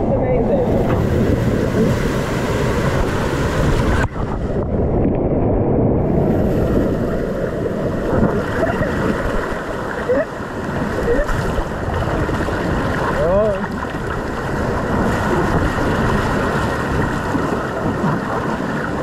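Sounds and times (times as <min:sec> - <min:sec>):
rushing churning water: 0:00.0 - 0:19.0
wind buffeting microphone: 0:00.0 - 0:19.0
water splashing against raft: 0:00.5 - 0:04.7, 0:06.2 - 0:19.0.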